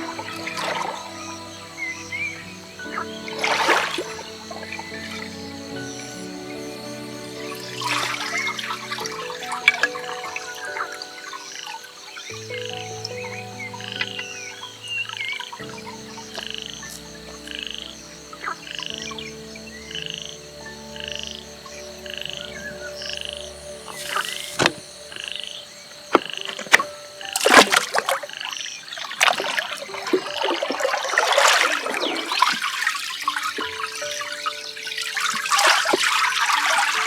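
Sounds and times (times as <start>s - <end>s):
water splashing and pouring: 0.0s - 19.4s, 23.8s - 37.0s
frogs croaking: 0.0s - 37.0s.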